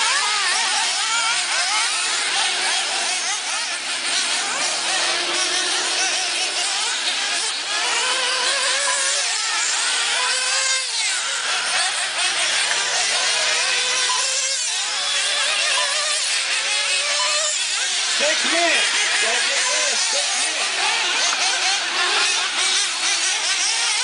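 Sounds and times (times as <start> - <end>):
model car engines buzzing: 0.0 - 24.0.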